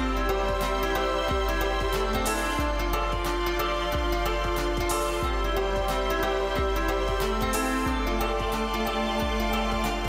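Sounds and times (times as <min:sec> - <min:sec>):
background music with steady beat: 0:00.0 - 0:10.0
held synth notes: 0:00.0 - 0:10.0.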